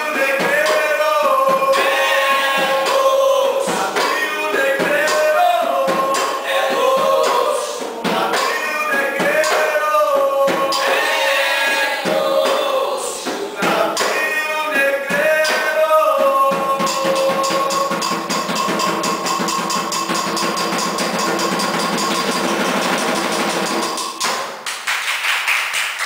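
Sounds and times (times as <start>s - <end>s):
voices singing a melody: 0.0s - 24.2s
fast steady drumbeat: 0.0s - 26.0s.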